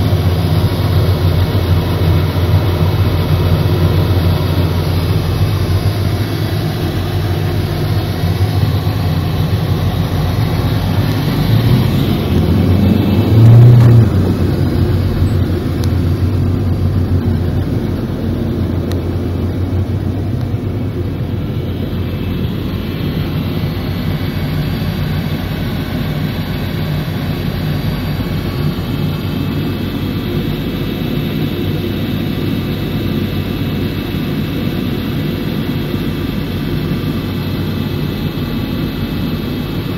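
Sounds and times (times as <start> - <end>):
car engine drone: 0.0 - 39.9
jet engines idling: 0.0 - 39.9
low hum: 0.0 - 39.9.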